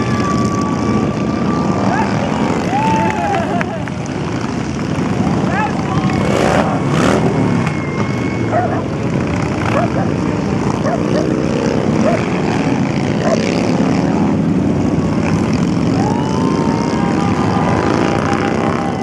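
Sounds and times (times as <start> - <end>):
motorcycles riding past: 0.0 - 19.0.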